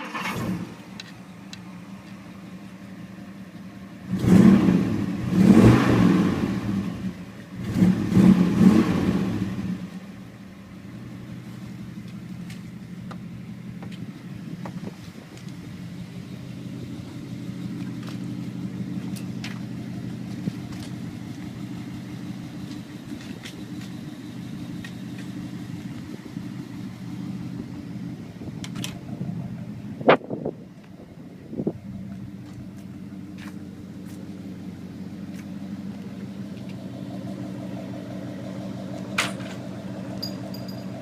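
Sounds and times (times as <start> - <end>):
car engine running steadily: 0.0 - 41.0.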